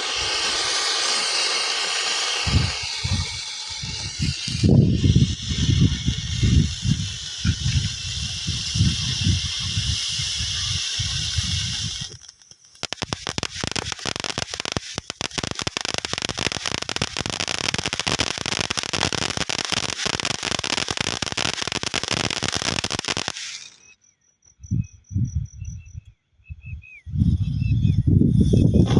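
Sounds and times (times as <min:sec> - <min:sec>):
firework crackling: 0:00.0 - 0:23.9
firework hissing: 0:00.0 - 0:23.9.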